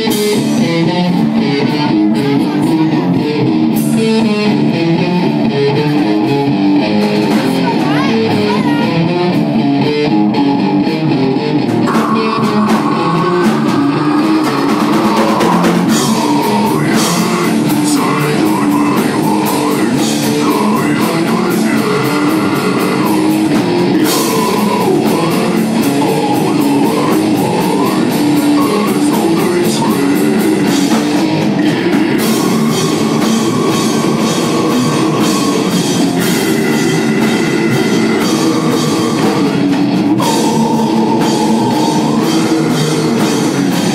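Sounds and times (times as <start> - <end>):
drum kit playing: 0.0 - 43.9
electric guitar: 0.0 - 43.9
person singing: 0.0 - 43.9.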